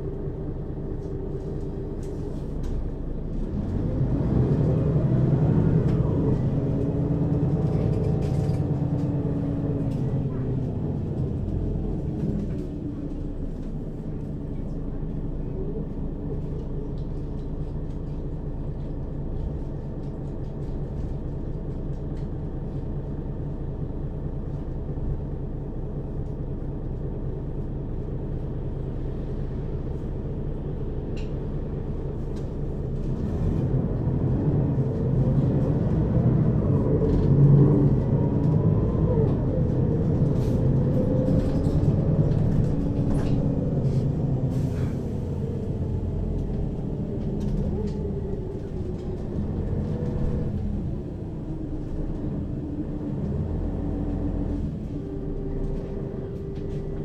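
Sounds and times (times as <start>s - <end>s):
bus engine accelerating: 0.0s - 57.0s.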